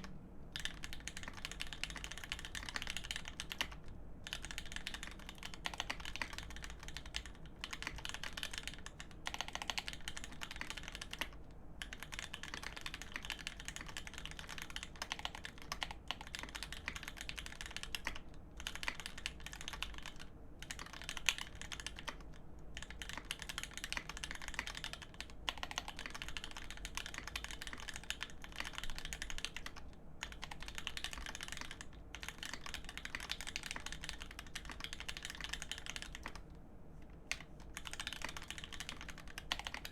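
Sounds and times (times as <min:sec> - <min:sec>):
mechanical keyboard typing: 0:00.0 - 0:36.4, 0:37.3 - 0:39.9.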